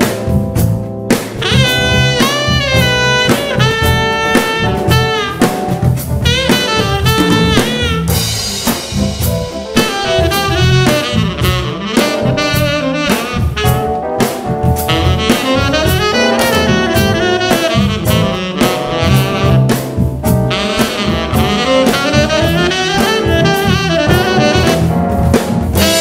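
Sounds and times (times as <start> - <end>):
drum kit: 0.0 - 26.0
electric bass: 0.0 - 26.0
saxophone lead melody: 1.4 - 26.0.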